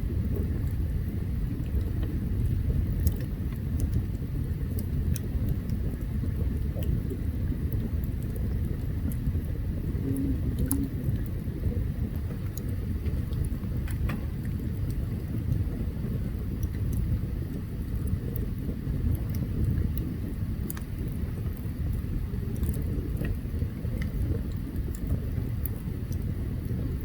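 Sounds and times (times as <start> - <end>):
campfire low rumble: 0.0 - 27.0
fire crackles and pops: 0.0 - 27.0.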